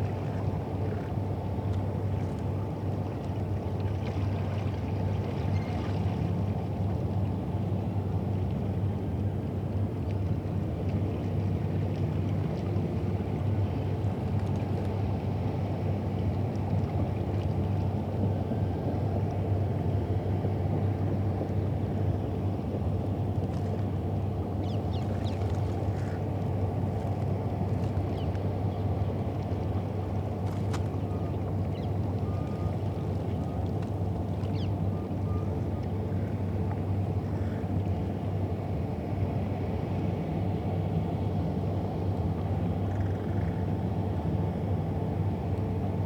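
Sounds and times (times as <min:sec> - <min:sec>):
river and city rumble: 0:00.0 - 0:46.0.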